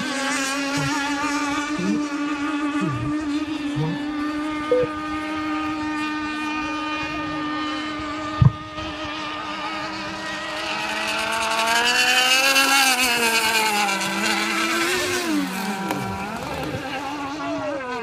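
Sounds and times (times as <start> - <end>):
model boat motor whining: 0.0 - 18.0.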